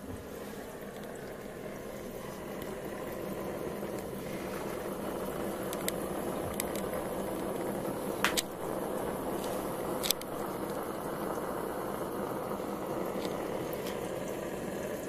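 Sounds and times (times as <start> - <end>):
burner hissing: 0.0 - 15.0.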